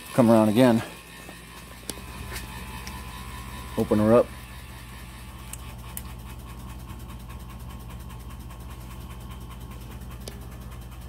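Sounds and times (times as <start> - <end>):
electric pump humming and pulsing: 0.0 - 11.0.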